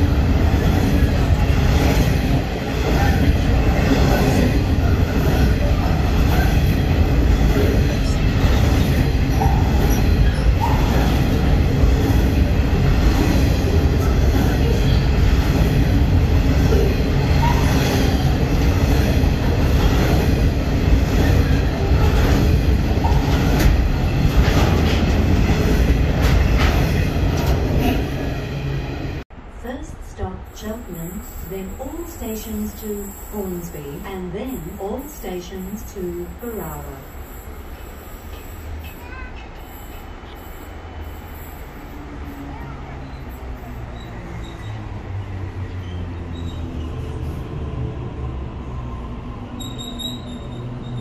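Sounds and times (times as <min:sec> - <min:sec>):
train wheels rumbling on rail: 0:00.0 - 0:29.3, 0:30.0 - 0:51.0.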